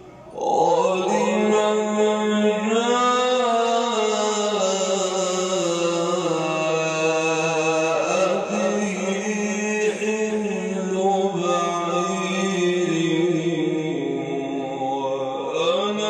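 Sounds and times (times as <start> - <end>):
man chanting melodically: 0.1 - 16.0.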